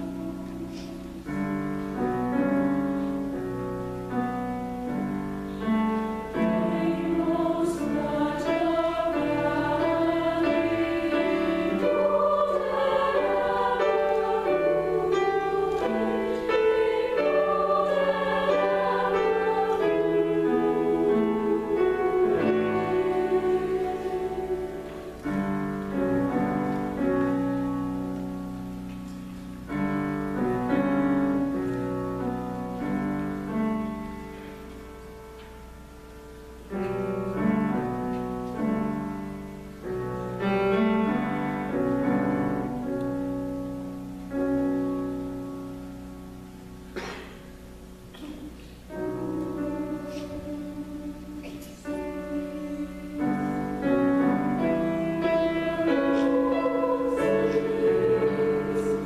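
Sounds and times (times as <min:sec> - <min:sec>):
girls' choir singing chords: 0:00.0 - 0:28.8, 0:29.6 - 0:59.0.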